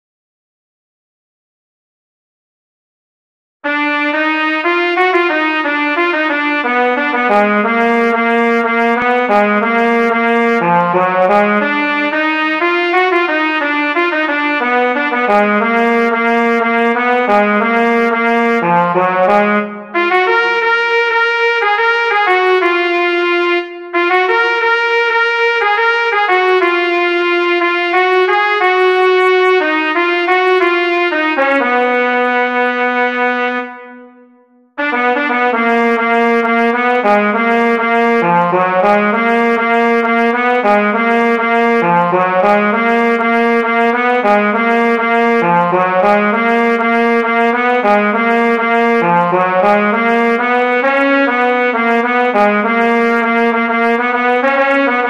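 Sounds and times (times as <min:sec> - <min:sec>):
synthesized trumpet melody: 0:03.6 - 0:55.0.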